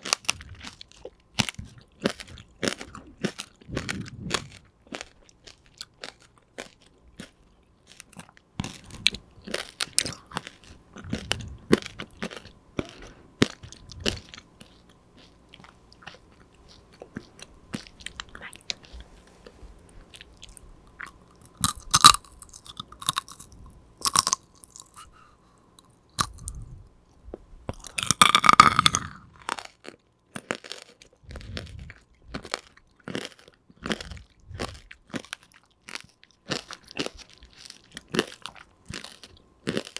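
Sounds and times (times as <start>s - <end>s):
chewing and crunching hard candy: 0.0s - 39.9s.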